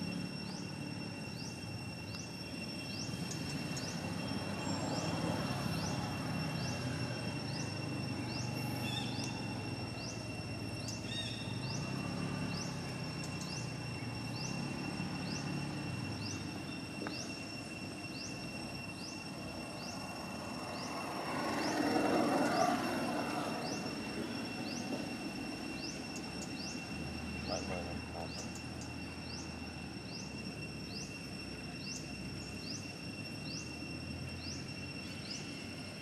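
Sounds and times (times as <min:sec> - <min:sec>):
insects droning: 0:00.0 - 0:36.0
rising insect chirp: 0:00.0 - 0:36.0
rush of noise: 0:00.0 - 0:36.0.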